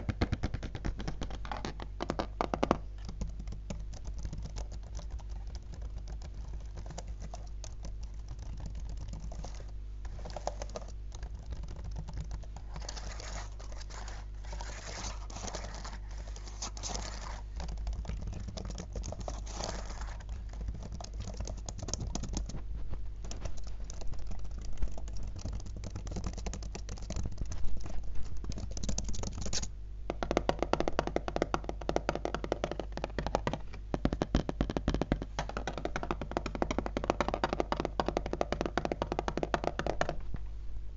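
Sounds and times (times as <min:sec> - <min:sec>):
fingers tapping laptop keys: 0:00.0 - 0:22.6, 0:23.2 - 0:40.2.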